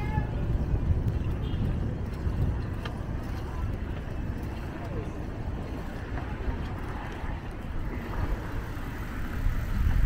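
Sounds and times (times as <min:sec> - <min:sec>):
city traffic noise: 0:00.0 - 0:10.0
wind buffeting microphone: 0:00.0 - 0:10.0.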